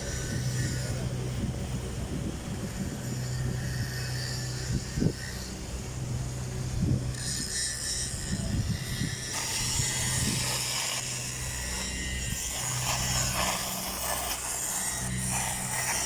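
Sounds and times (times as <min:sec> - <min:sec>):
low machine hum: 0:00.0 - 0:16.0
welding hiss and crackle: 0:03.0 - 0:16.0.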